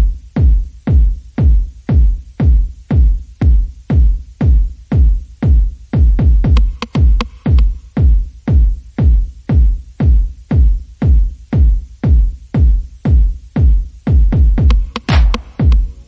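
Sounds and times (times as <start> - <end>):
electronic music with kick drum: 0.0 - 16.0.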